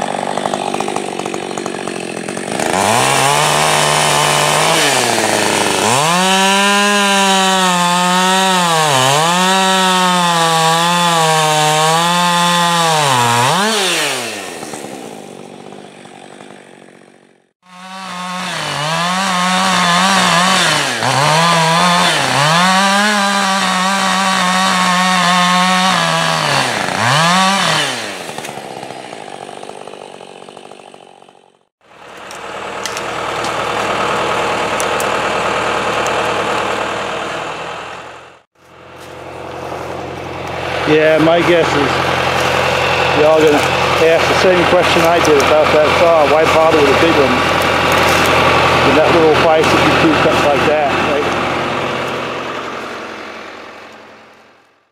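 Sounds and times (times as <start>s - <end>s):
chainsaw cutting log: 0.0s - 54.8s.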